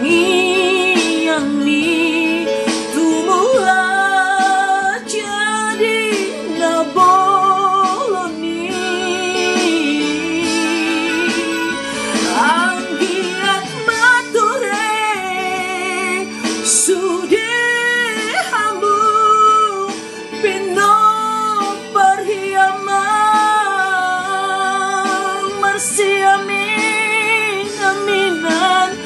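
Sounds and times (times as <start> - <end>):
instrumental accompaniment: 0.0 - 29.0
woman singing with vibrato: 0.0 - 29.0.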